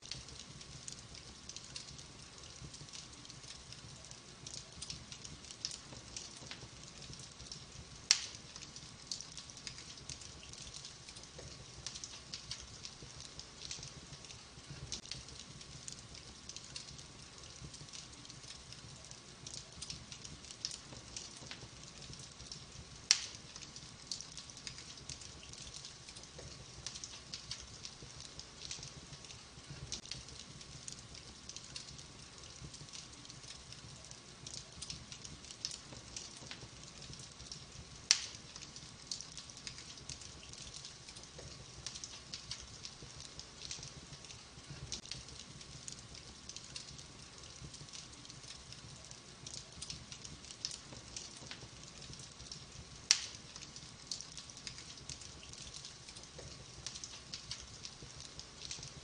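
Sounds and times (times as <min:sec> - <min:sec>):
soft hiss: 0:00.0 - 0:59.0
wood fire crackling: 0:00.0 - 0:59.0.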